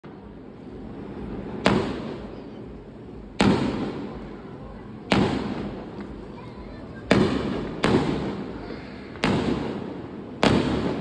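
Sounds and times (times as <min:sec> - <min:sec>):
fireworks booming: 0:00.1 - 0:06.3, 0:06.9 - 0:11.0.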